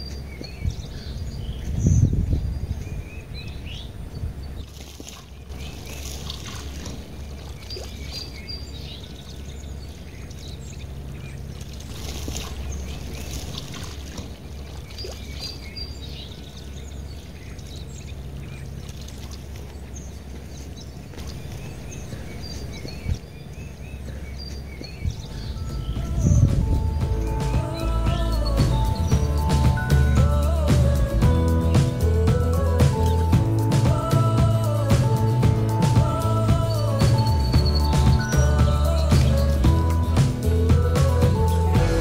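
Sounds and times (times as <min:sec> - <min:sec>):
small birds chirping: 0:00.0 - 0:42.0
water trickling and splashing: 0:02.6 - 0:42.0
steady low hum: 0:05.3 - 0:42.0.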